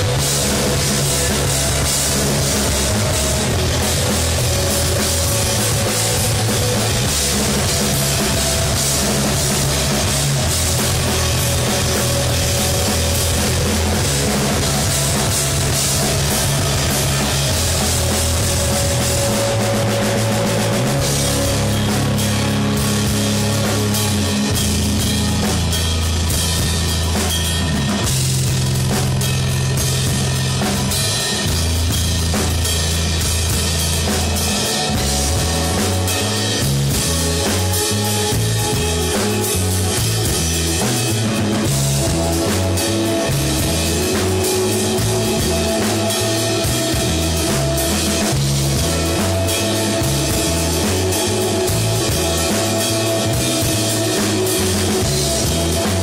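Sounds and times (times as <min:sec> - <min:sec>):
bass guitar: 0:00.0 - 0:56.0
distorted guitars: 0:00.0 - 0:56.0
drum kit with cymbal wash: 0:00.0 - 0:56.0.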